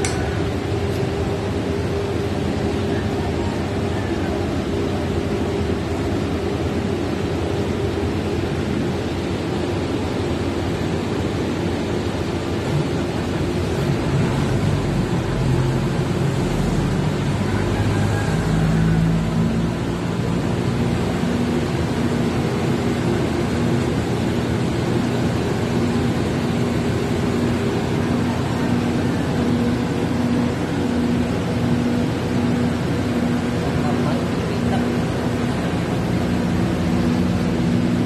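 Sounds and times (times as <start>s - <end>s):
generators droning: 0.0s - 38.0s.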